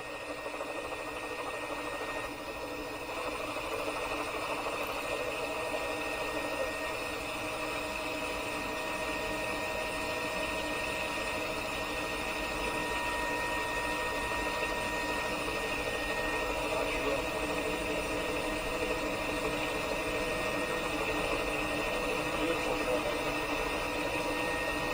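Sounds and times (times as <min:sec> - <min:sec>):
helicopter engine drone: 0:00.0 - 0:24.9.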